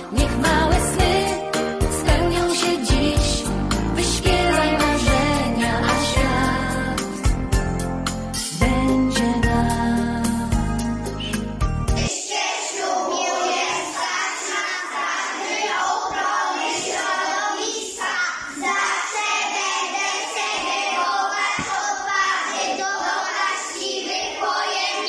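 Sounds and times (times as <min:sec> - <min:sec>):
children singing together: 0:00.0 - 0:07.1, 0:12.0 - 0:25.0.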